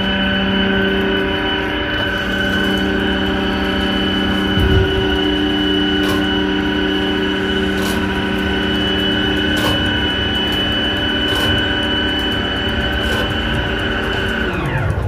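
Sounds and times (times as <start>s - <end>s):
machinery hum with high whine: 0.0s - 15.0s.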